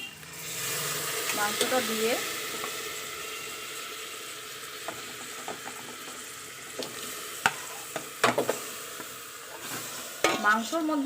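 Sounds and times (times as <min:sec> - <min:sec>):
chicken and onions sizzling in oil: 0:00.0 - 0:11.0.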